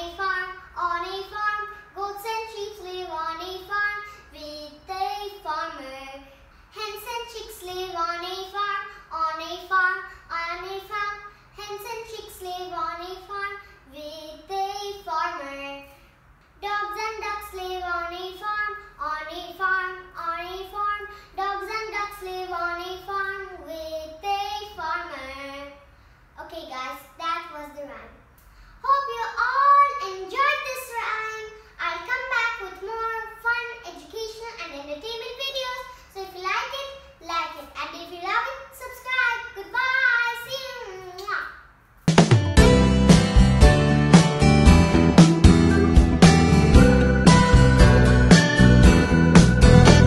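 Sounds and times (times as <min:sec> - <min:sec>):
girl singing: 0:00.0 - 0:16.0, 0:16.6 - 0:28.2, 0:28.8 - 0:41.5.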